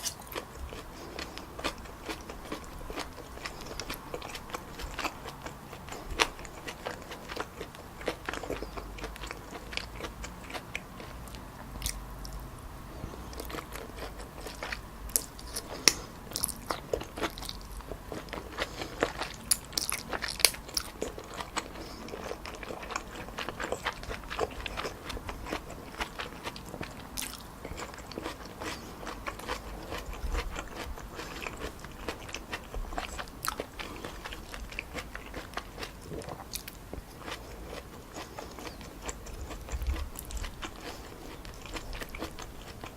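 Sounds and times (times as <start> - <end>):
chewing noodles: 0.0 - 42.9.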